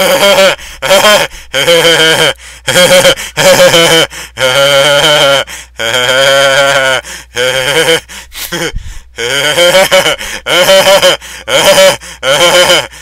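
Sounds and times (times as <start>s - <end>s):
man laughing loudly: 0.0s - 13.0s.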